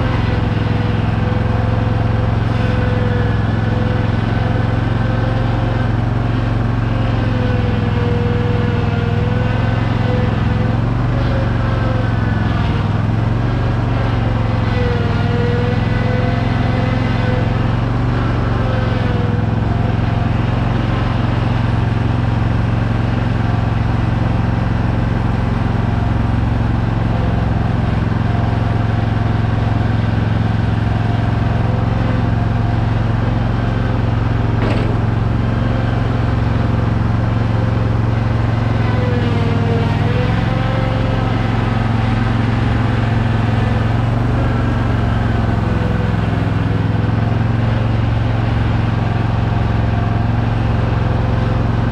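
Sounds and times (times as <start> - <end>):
mower engine running: 0.0 - 51.9.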